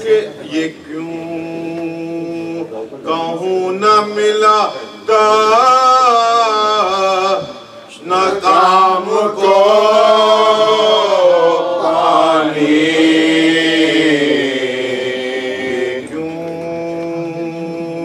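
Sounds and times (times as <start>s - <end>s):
person chanting a lament: 0.0s - 18.0s.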